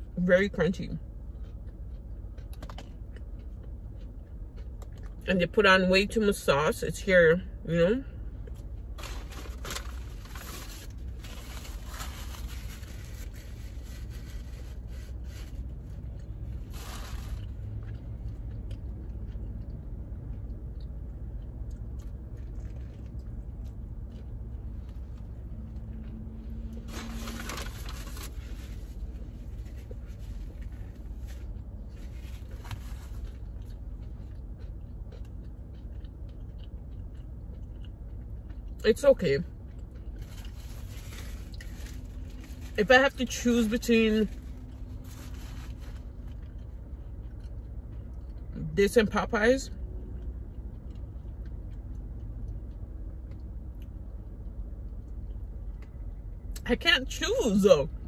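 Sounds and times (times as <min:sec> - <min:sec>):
person chewing crispy food: 0:00.0 - 0:05.3, 0:07.9 - 0:48.8, 0:49.7 - 0:56.6
low steady hum: 0:00.0 - 0:58.0.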